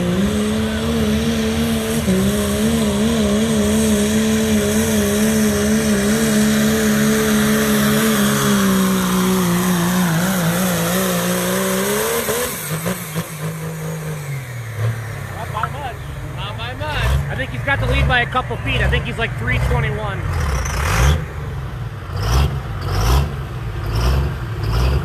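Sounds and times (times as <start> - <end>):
diesel truck engine at full throttle: 0.0 - 25.0.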